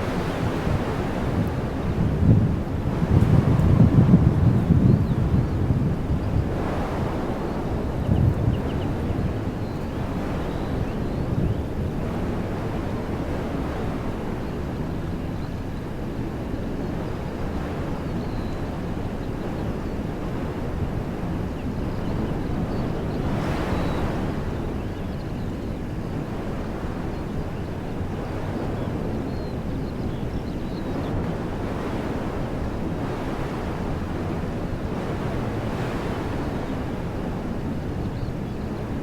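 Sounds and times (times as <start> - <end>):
wind through trees: 0.0 - 39.0.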